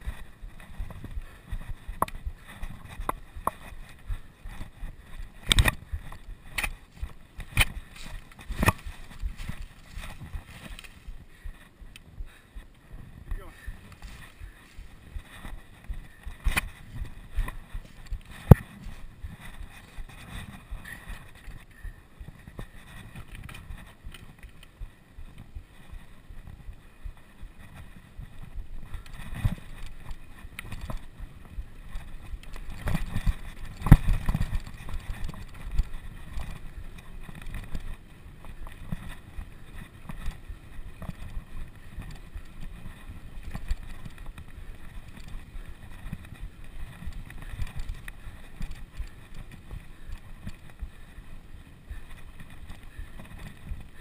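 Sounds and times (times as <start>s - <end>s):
wind rumbling over microphone: 0.0s - 54.0s.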